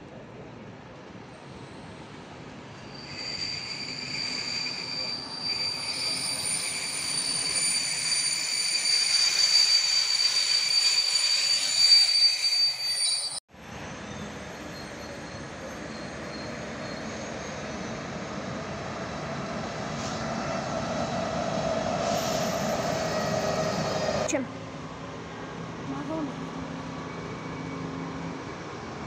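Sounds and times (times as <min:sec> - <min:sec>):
train wheels squealing: 0:01.3 - 0:24.3, 0:26.9 - 0:28.6.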